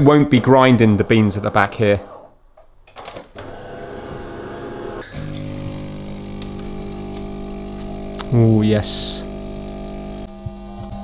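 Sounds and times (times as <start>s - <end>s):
coffee machine humming: 0.4s - 1.6s, 3.4s - 11.0s.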